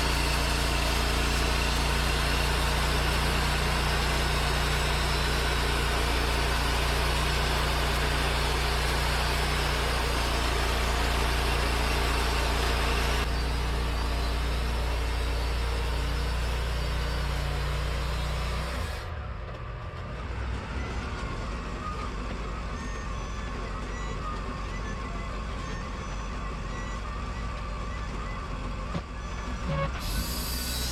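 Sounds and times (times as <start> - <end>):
rough mechanical noise: 0.0 - 30.9
sawmill engine hum: 0.0 - 30.9.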